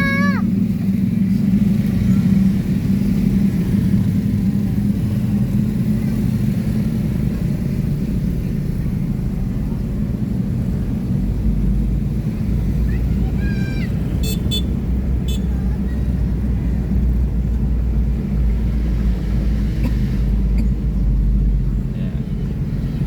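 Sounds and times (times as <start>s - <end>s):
bus engine low rumble: 0.0s - 23.0s.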